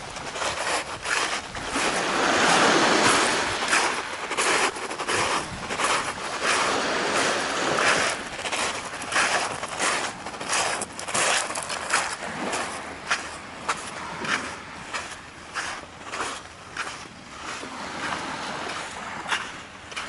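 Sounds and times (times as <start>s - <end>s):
footsteps crunching on pebbles: 0.0s - 17.2s
surf washing: 0.0s - 20.0s.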